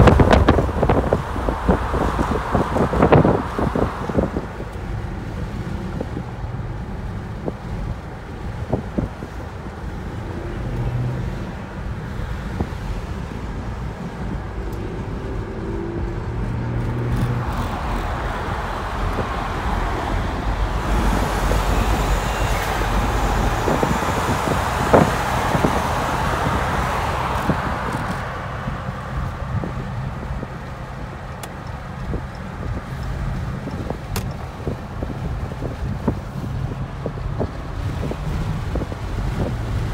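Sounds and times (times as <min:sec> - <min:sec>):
car engine hum: 0:00.0 - 0:39.9
tyre and road noise: 0:00.0 - 0:39.9.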